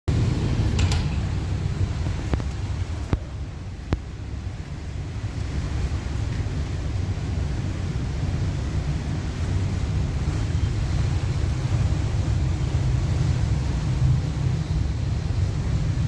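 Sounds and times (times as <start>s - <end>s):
sea washing: 0.1s - 16.0s
wind buffeting microphone: 0.1s - 16.0s.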